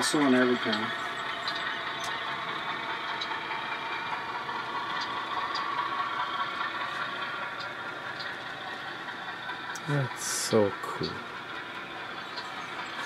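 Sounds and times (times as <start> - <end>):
model train rumble: 0.0 - 13.0.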